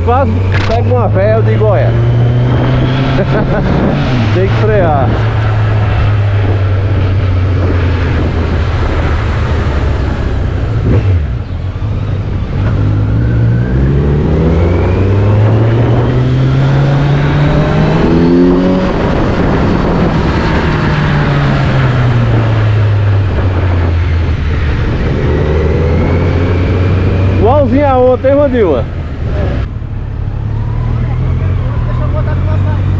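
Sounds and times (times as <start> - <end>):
vehicle engine accelerating: 0.0 - 32.9.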